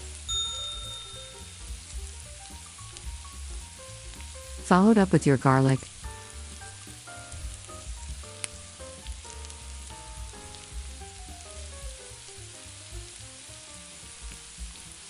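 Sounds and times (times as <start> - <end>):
soft background music: 0.0 - 15.0
vegetables sizzling in oil: 0.0 - 15.0.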